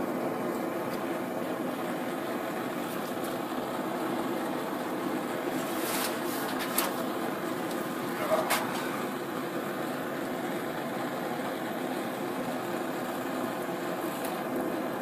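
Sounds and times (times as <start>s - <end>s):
forge burner rushing: 0.0s - 15.0s.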